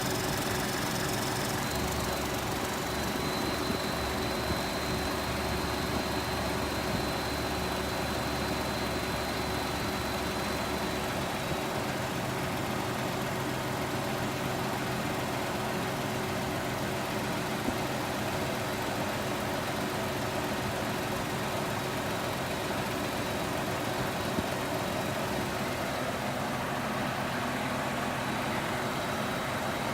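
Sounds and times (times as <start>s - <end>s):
car engine idling: 0.0s - 29.9s
engine ticking: 0.0s - 29.9s.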